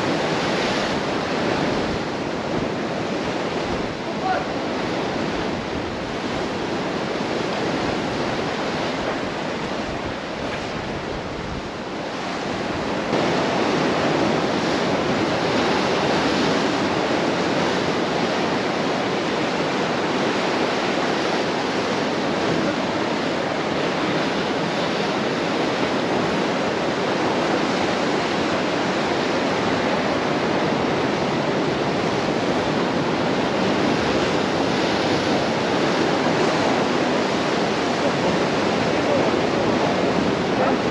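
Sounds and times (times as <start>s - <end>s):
surf washing onto rocky shore: 0.0s - 40.9s.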